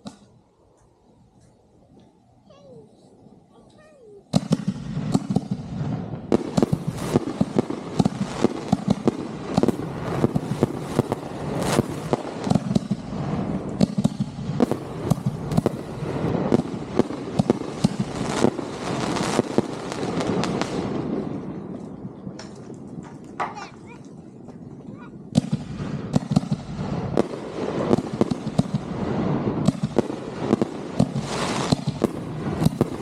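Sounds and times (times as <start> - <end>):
fireworks bangs and crackling: 0.0 - 0.5, 2.0 - 33.0.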